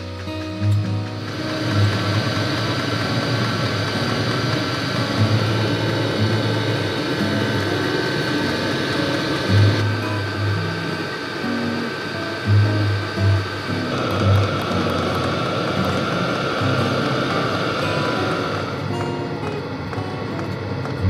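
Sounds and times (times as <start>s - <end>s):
heater fan whir: 0.0s - 21.0s.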